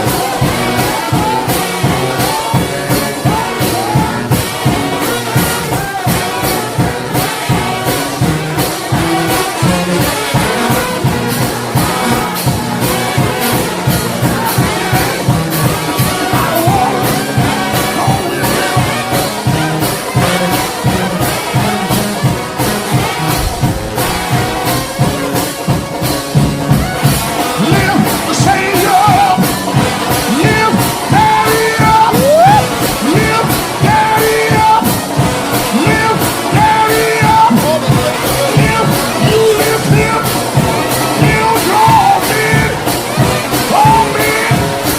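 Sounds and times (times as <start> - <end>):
fast drum beat: 0.0 - 44.9
trombone band playing: 0.0 - 44.9.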